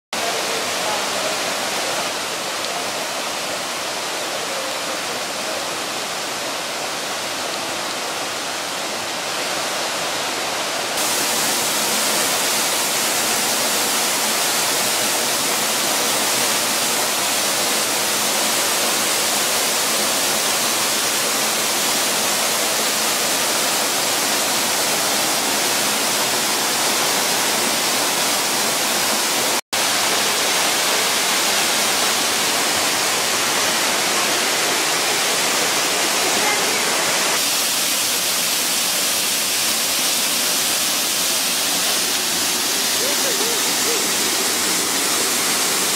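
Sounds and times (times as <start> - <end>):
waterfall rushing: 0.1 - 45.9.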